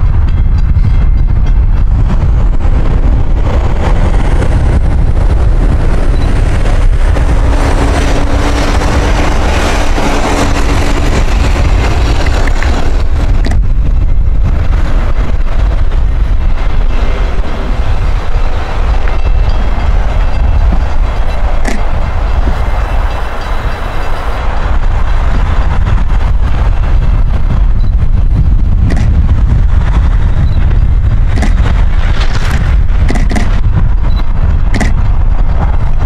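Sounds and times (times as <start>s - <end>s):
electric train approaching: 0.0s - 36.0s
wind buffeting microphone: 0.0s - 36.0s.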